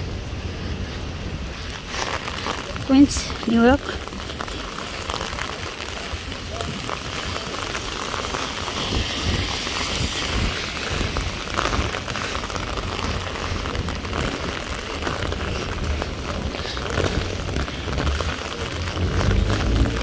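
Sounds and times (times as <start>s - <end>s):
heavy rain splashing: 0.0s - 20.0s.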